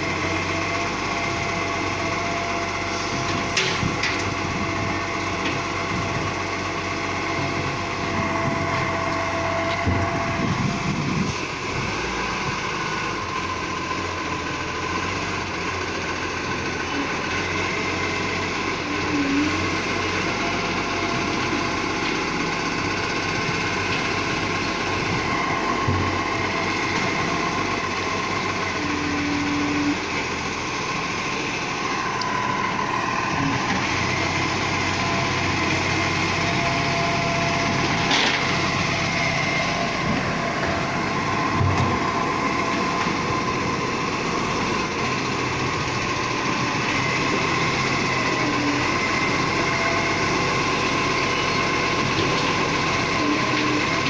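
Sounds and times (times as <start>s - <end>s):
garbage truck running: 0.0s - 54.0s.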